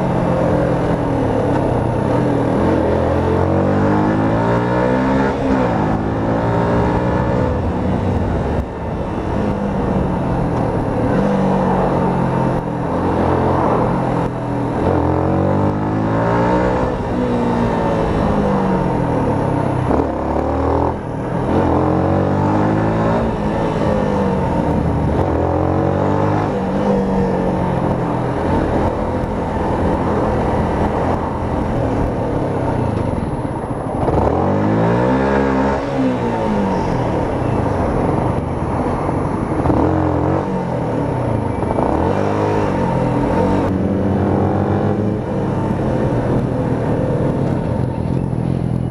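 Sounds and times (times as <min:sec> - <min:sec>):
motorcycle engine shifting gears: 0:00.0 - 0:48.9
wind noise: 0:00.0 - 0:48.9.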